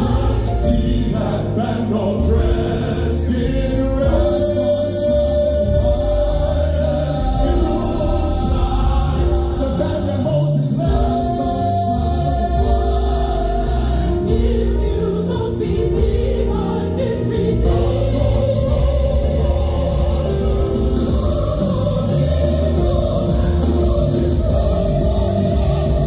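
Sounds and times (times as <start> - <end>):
choir singing held notes: 0.0 - 26.0
deep steady bass: 0.0 - 26.0.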